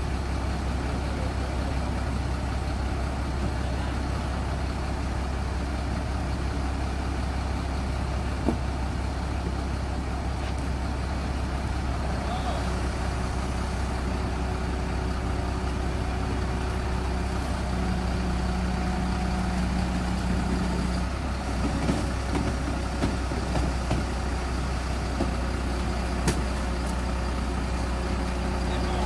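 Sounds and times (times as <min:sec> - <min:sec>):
truck diesel engine drone: 0:00.0 - 0:29.0.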